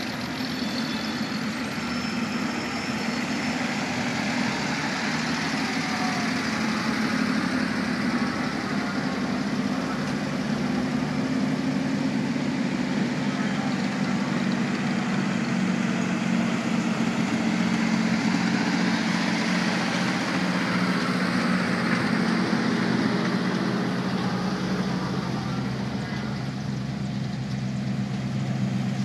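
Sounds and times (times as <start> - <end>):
road noise: 0.0 - 29.0
truck engines humming: 0.0 - 29.0.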